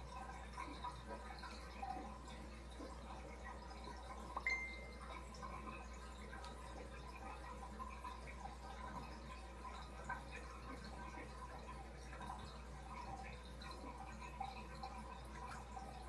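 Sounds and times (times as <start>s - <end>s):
low pump hum: 0.0s - 16.0s
water trickling and dripping: 0.0s - 16.0s.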